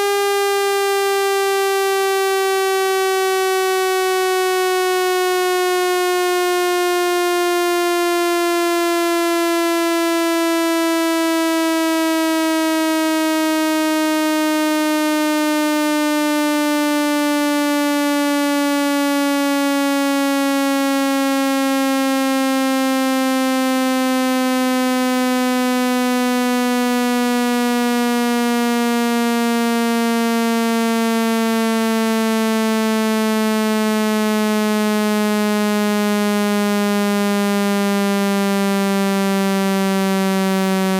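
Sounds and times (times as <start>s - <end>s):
buzzy electronic tone falling in pitch: 0.0s - 20.2s, 23.7s - 40.9s.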